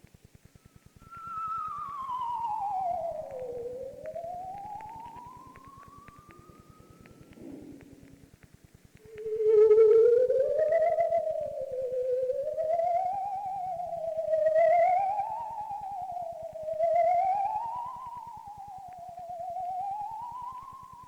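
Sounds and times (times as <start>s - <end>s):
eerie theremin-style electronic tone: 0.7s - 8.2s, 9.0s - 21.0s.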